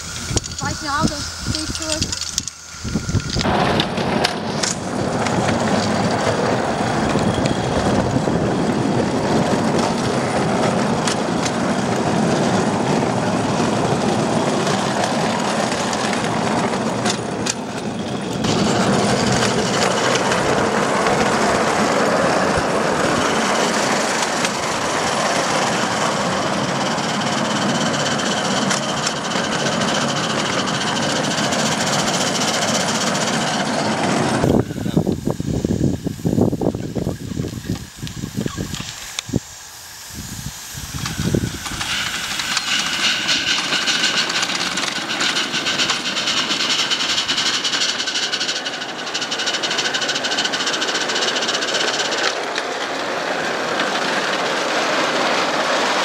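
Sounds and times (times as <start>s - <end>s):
train wheels rattling over track: 0.0s - 56.0s.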